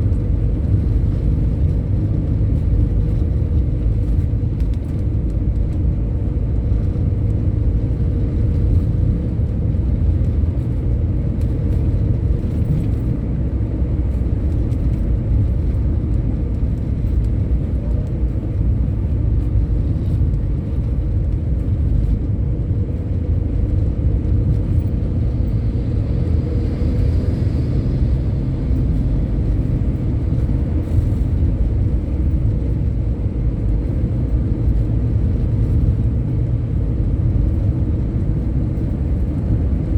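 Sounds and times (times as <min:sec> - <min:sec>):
vehicle engine and tyre rumble: 0:00.0 - 0:39.9.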